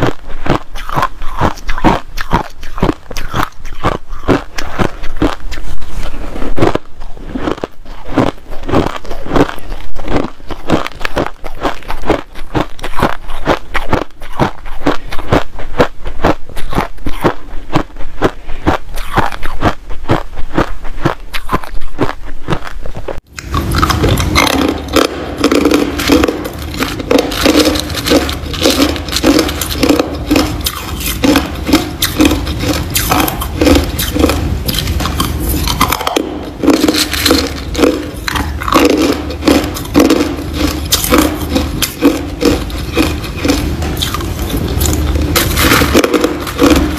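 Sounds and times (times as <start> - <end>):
ice crunching in mouth: 0.0 - 46.9.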